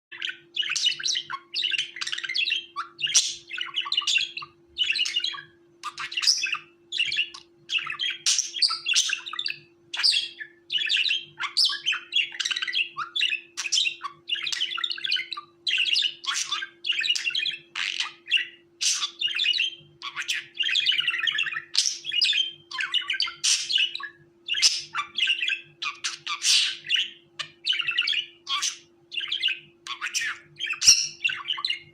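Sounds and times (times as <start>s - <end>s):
budgerigar chattering and chirping: 0.1s - 31.9s.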